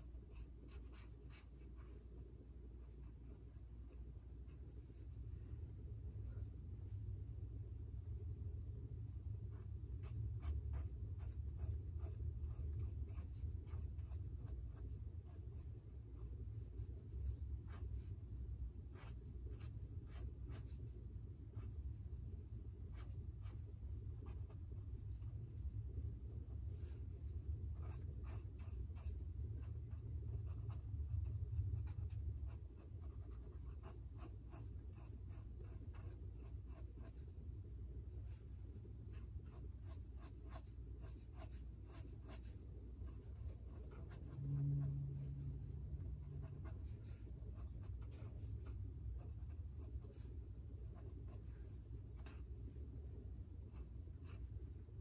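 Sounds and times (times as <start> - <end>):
low steady hum: 0.0 - 55.0
steady low rumble: 0.0 - 55.0
pen scratching on paper: 0.1 - 5.4, 9.5 - 45.5, 46.1 - 55.0.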